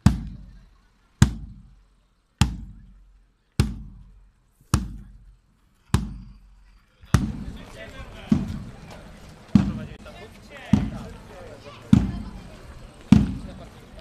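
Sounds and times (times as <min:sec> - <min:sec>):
marching drum beating: 0:00.0 - 0:00.6, 0:01.2 - 0:01.8, 0:02.4 - 0:05.3, 0:05.9 - 0:13.8.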